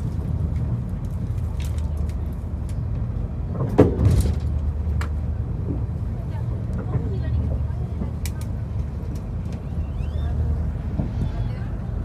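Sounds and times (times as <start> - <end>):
train carriage rumbling on track: 0.0 - 12.0.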